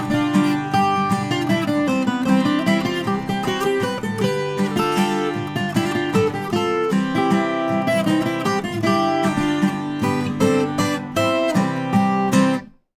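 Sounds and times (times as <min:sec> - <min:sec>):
folk guitar plucked and strummed: 0:00.0 - 0:12.9.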